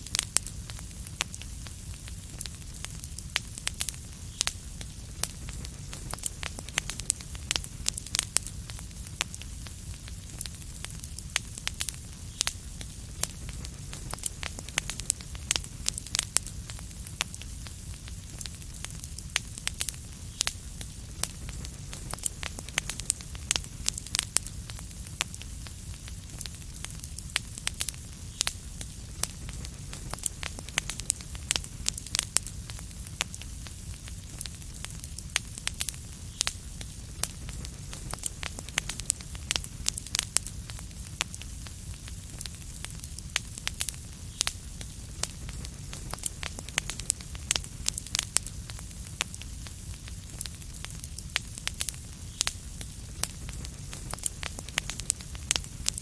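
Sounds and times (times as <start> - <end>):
soft hiss: 0.0 - 56.0
wood fire crackling: 0.0 - 56.0.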